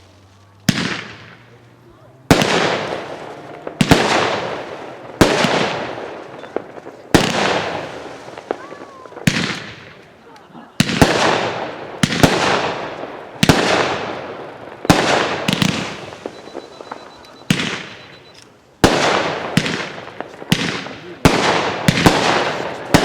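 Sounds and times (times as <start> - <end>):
fireworks bangs: 0.0 - 23.0
fireworks crackle and hiss: 0.0 - 23.0.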